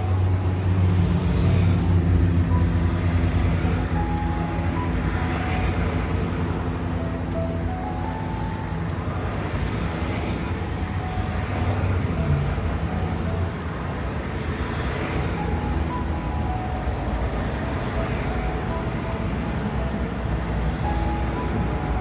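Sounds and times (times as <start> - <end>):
highway traffic: 0.0 - 22.0.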